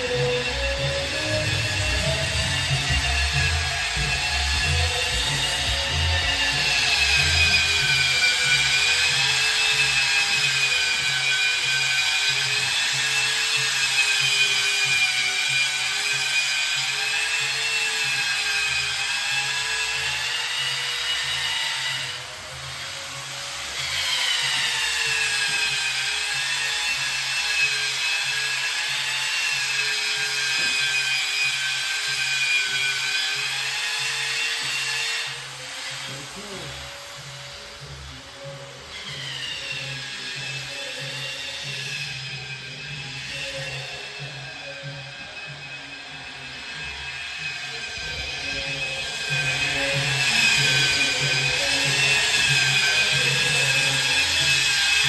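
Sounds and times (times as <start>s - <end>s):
power drywall sander whining: 0.0s - 55.0s.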